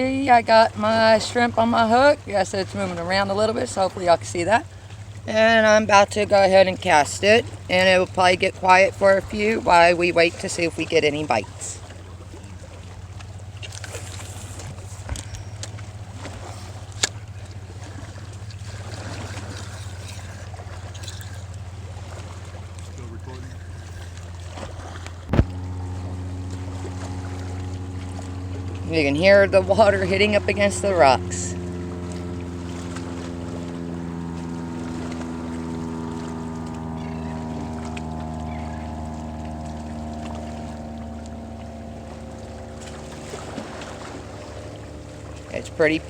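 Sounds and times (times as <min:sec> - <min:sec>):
steady low rumble: 0:00.0 - 0:45.9
motorboat engine droning: 0:00.0 - 0:46.0
water lapping against rocks: 0:00.0 - 0:46.0.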